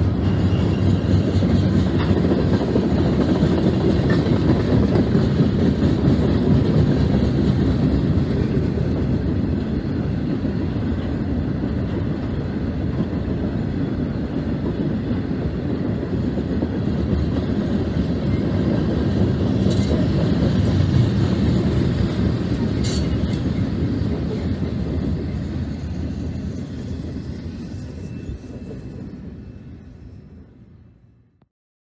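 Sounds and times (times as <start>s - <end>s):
train wheels rumbling on rail: 0.0s - 31.3s.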